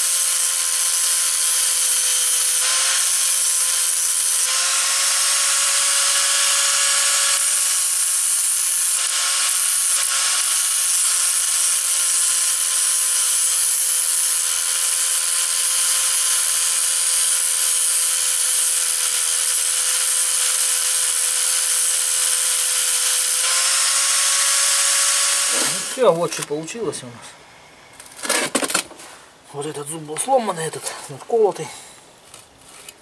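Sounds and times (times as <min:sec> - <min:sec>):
angle grinder grinding metal: 0:00.0 - 0:26.6.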